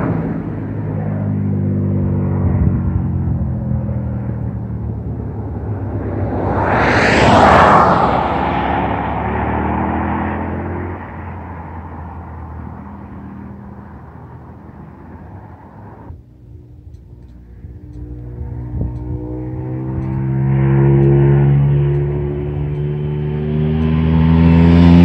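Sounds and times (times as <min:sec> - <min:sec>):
motorcycle engine approaching: 0:00.0 - 0:15.4, 0:16.1 - 0:25.0
passing vehicle: 0:00.0 - 0:25.0.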